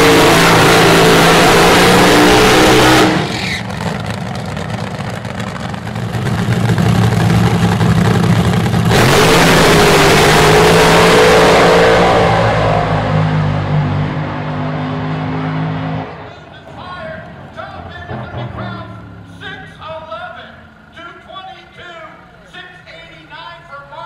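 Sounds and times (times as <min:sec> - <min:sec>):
drag racing engines revving: 0:00.0 - 0:23.9.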